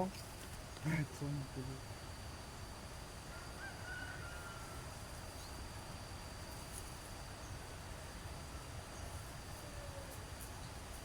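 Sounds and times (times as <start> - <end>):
insect drone: 0.0 - 11.0.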